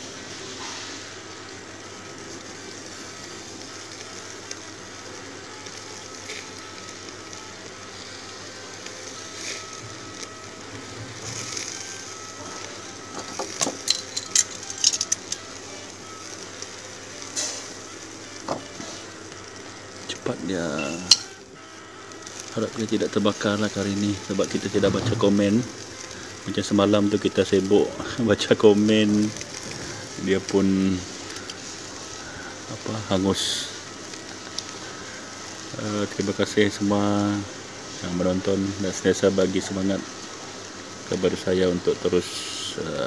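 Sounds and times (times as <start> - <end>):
crackles and pops: 0.0 - 37.6
faint music: 0.0 - 43.0
food sizzling on a grill: 0.0 - 43.0.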